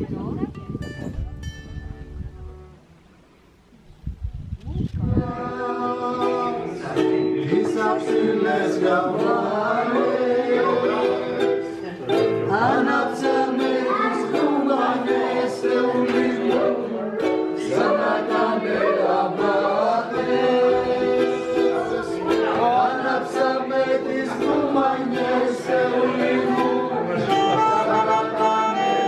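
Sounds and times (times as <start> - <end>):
people singing along: 5.0 - 29.0.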